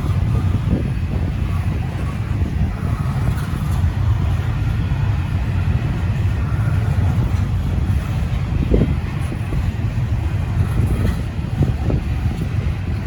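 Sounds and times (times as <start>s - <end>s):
freight train rumbling past: 0.0s - 13.0s
wind buffeting microphone: 0.0s - 13.0s.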